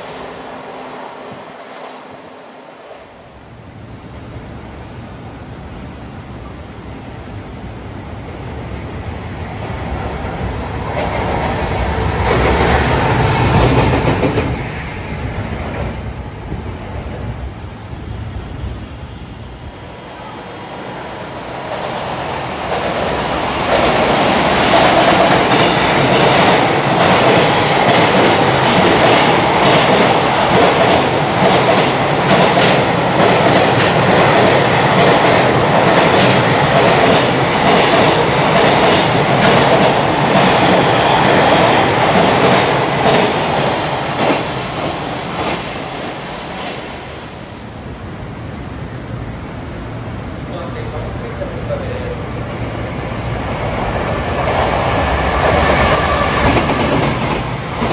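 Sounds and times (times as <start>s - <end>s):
freight train approaching: 0.0s - 57.9s.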